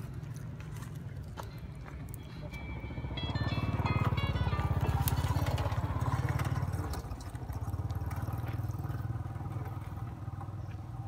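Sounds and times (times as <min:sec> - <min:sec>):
engine low pulsing: 0:00.0 - 0:11.0.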